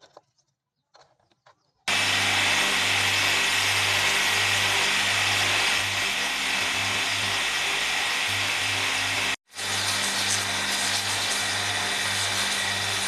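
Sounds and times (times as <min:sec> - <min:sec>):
electric motor hum: 0:01.9 - 0:13.0
sanding hiss: 0:01.9 - 0:13.0.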